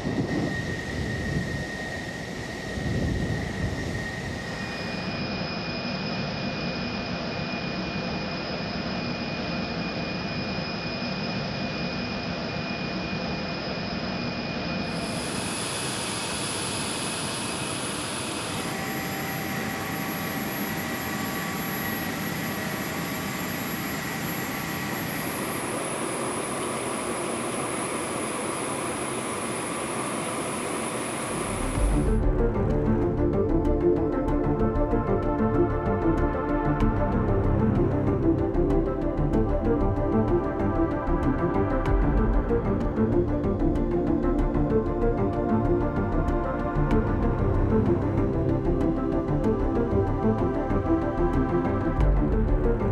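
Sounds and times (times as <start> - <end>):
high turbine whine: 0.0 - 52.9
jet engines running: 0.0 - 52.9.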